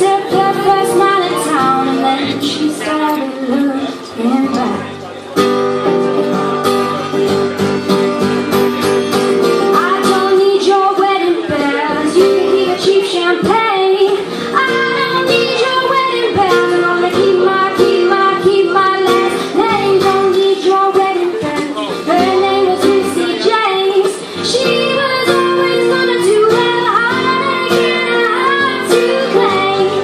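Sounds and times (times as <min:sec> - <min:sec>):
girl singing: 0:00.0 - 0:04.8, 0:09.6 - 0:30.0
strummed acoustic guitar: 0:00.0 - 0:30.0.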